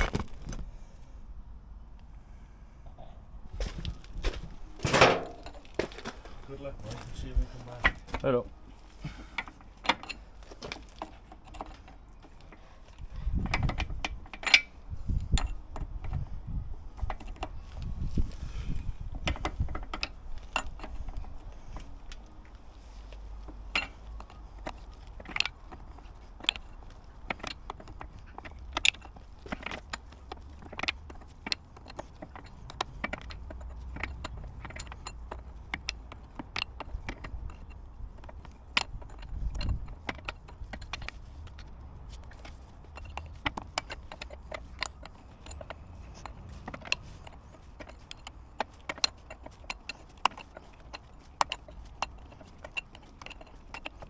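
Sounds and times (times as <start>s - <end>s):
metal tools clinking: 4.8s - 54.0s.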